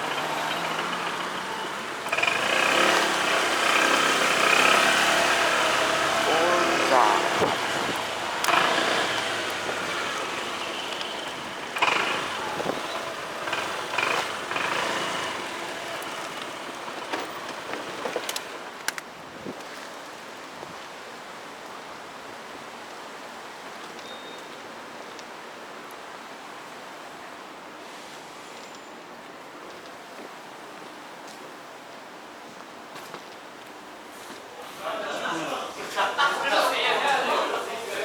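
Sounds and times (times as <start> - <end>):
road vehicle noise: 0.0 - 20.5, 24.6 - 38.0.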